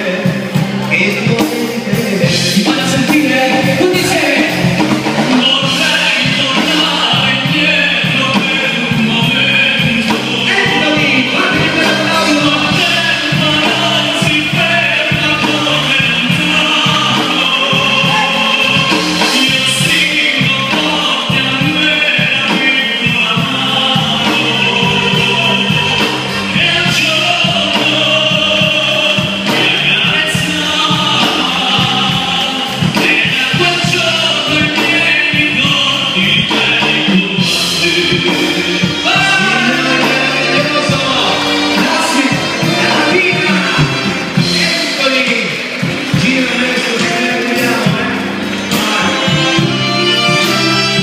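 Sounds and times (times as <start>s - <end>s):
instrumental accompaniment: 0.0s - 51.0s
man singing into microphone: 0.0s - 51.0s.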